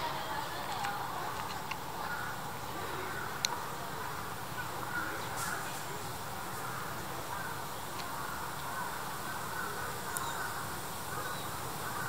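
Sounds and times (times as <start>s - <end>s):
faint distant calls: 0.0s - 12.0s.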